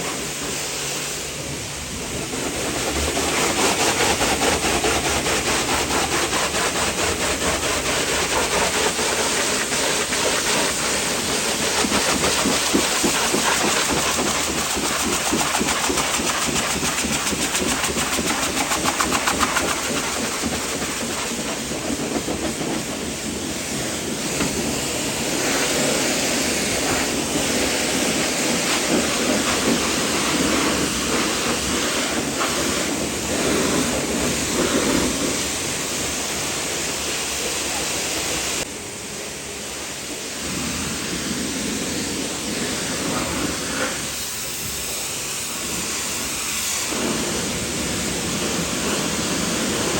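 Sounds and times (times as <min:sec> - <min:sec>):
pressure washer spraying water: 0:00.0 - 0:49.9.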